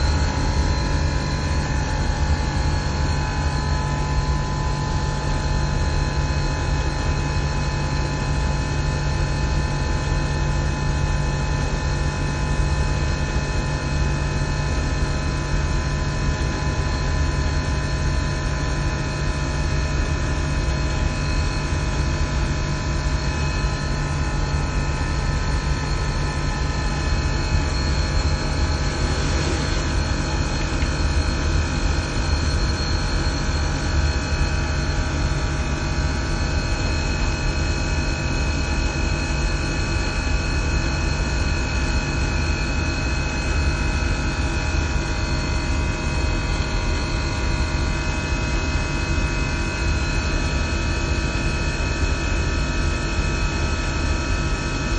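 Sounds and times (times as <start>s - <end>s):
constant machine tones: 0.0s - 54.9s
hvac machinery running: 0.0s - 54.9s.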